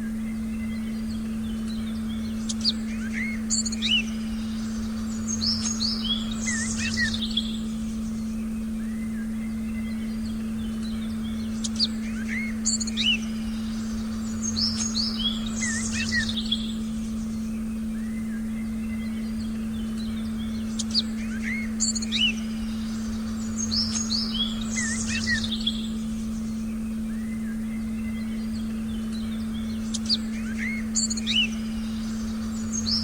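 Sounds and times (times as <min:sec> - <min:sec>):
birdsong chirps and whistles: 0:00.0 - 0:33.0
steady meditation tone: 0:00.0 - 0:33.0.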